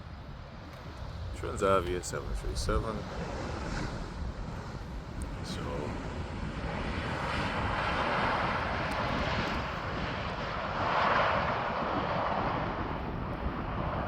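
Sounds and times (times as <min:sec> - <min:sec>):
jet engines whining: 0:01.3 - 0:14.0.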